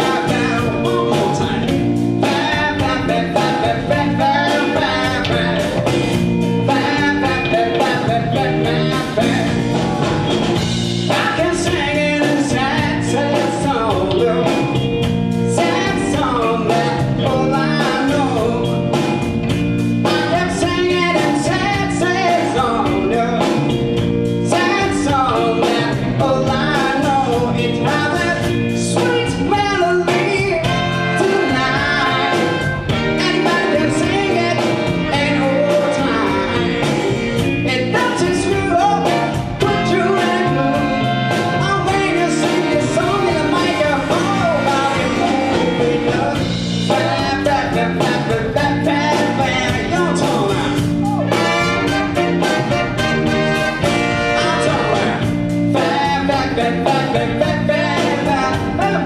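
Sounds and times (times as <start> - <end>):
live band with singer: 0.0 - 59.0.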